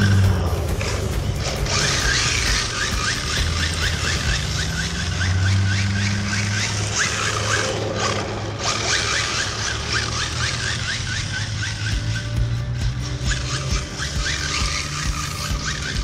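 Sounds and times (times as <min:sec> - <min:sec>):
radio-controlled car driving: 0:00.0 - 0:16.0
steady low drone: 0:00.0 - 0:16.0.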